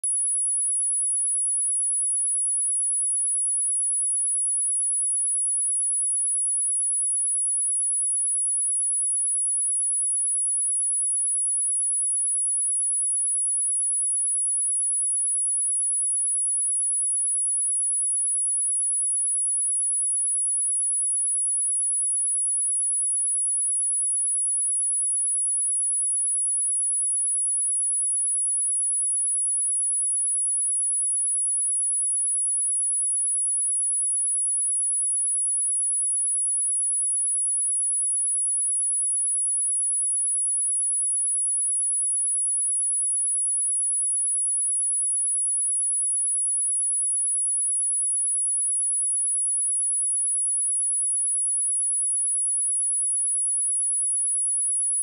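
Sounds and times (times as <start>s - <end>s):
high-pitched sine test tone: 0.0s - 55.0s.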